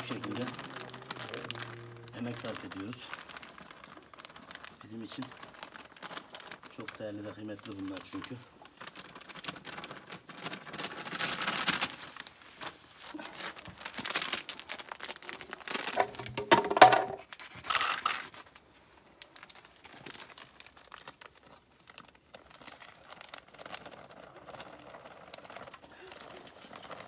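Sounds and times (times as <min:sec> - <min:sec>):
plastic packaging crinkling and tearing: 0:00.0 - 0:27.0.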